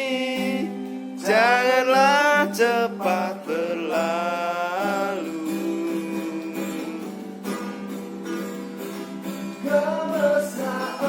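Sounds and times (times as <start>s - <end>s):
man singing: 0.0s - 8.1s, 9.4s - 11.0s
ukulele strumming: 0.0s - 11.0s.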